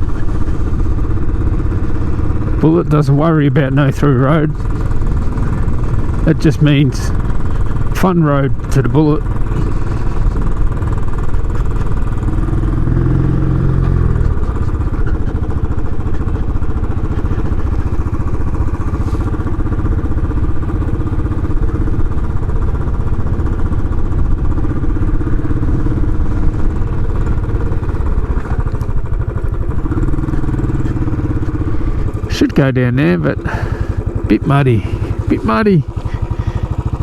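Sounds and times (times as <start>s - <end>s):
motorcycle engine thumping: 0.0s - 37.0s.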